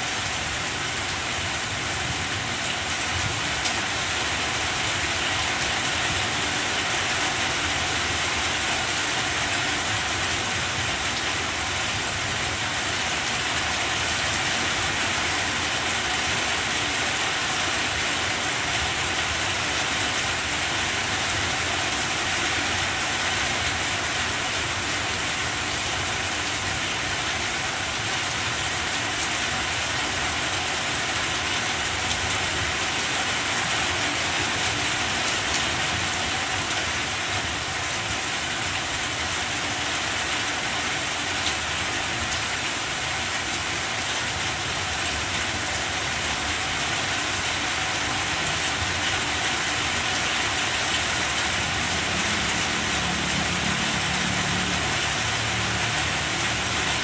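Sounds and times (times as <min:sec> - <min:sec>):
rain on broad leaves: 0:00.0 - 0:57.0.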